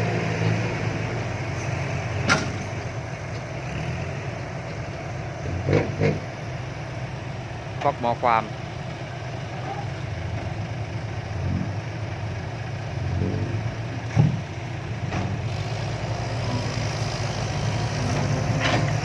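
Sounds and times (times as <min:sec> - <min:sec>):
diesel machinery engine running: 0:00.0 - 0:19.0.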